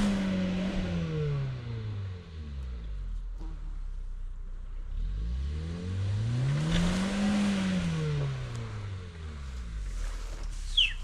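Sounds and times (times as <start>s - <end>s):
car engine revving under load: 0.0s - 11.0s.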